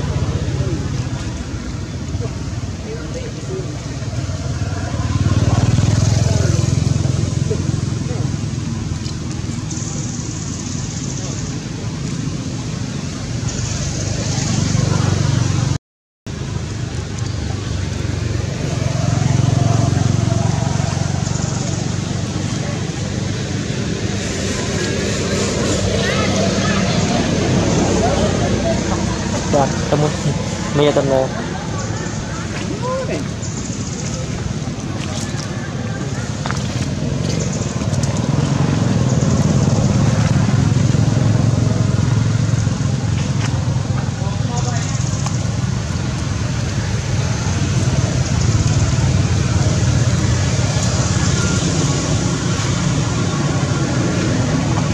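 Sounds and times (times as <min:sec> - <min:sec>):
engine humming: 0:00.0 - 0:54.9.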